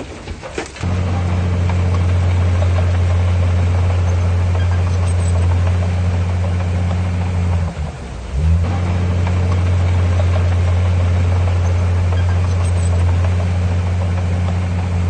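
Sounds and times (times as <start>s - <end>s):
heavy diesel engine droning: 0.8s - 15.0s.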